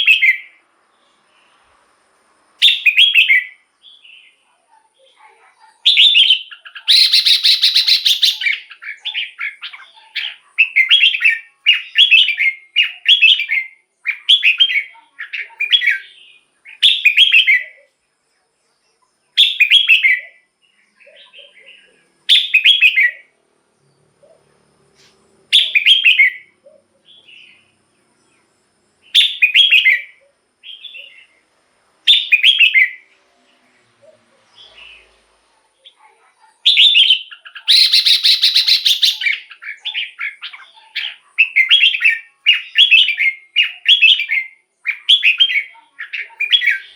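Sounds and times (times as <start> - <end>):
bird singing short phrases: 2.6 - 18.0, 18.8 - 23.3, 25.5 - 31.4, 32.1 - 35.2, 36.7 - 46.9.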